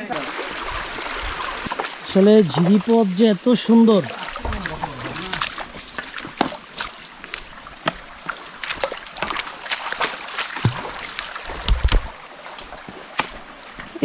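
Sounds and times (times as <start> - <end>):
footsteps splashing through stream: 0.0 - 14.0
running water: 0.0 - 14.0.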